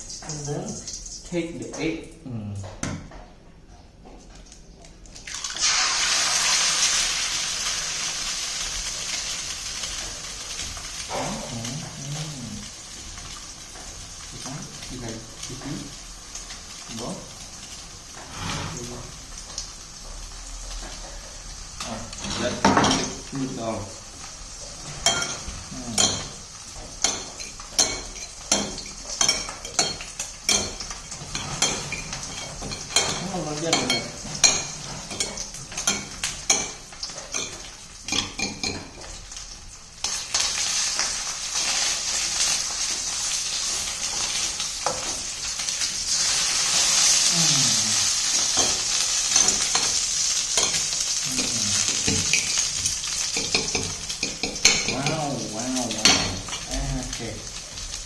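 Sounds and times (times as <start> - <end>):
food sizzling in hot oil: 0.0 - 1.8, 5.2 - 58.0
utensil scraping in cooking pan: 5.4 - 58.0.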